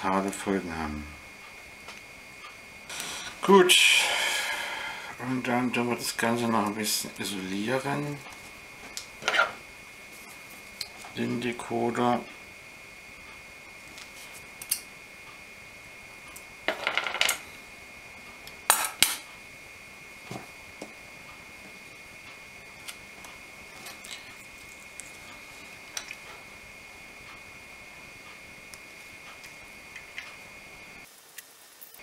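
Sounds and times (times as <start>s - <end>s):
faint steady high whine: 0.0s - 32.0s.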